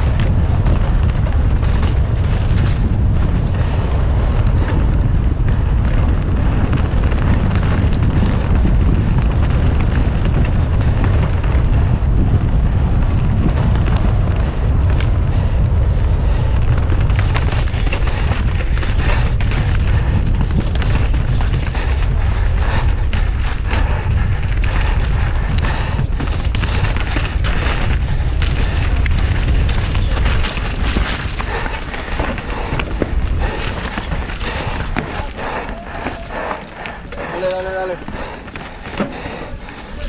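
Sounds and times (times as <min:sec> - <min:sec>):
bike knocking and rattling: 0:00.0 - 0:40.0
wind buffeting microphone: 0:00.0 - 0:40.0.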